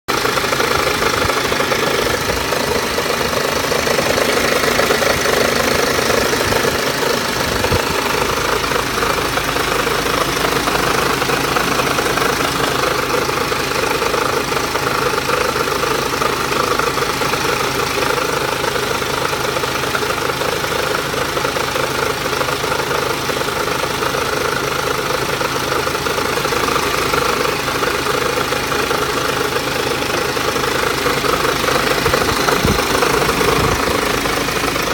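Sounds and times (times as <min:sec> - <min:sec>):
diesel engine running at low revs: 0:00.0 - 0:34.9
strange engine sound: 0:00.0 - 0:34.9.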